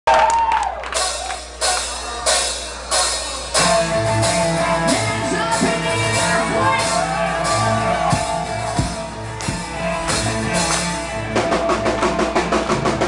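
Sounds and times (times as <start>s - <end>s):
drums and cymbals: 0.9s - 13.0s
live metal band playing: 0.9s - 13.0s
guitar riff: 1.5s - 13.0s.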